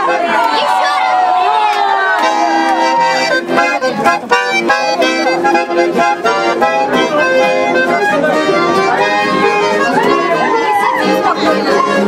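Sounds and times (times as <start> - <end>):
accordion playing: 0.0 - 12.0
acoustic guitar strumming: 2.2 - 12.0.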